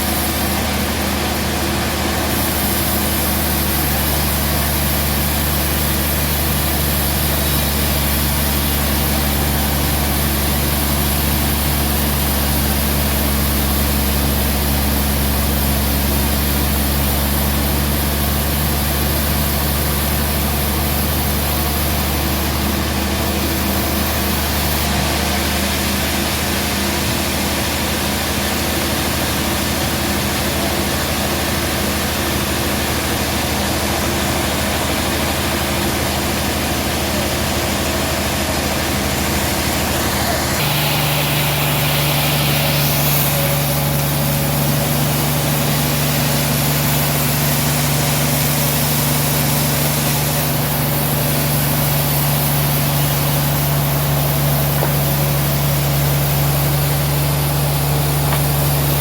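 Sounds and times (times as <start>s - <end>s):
hiss: 0.0s - 30.5s, 37.9s - 59.0s
band sawmill humming: 0.0s - 30.6s, 31.8s - 59.0s.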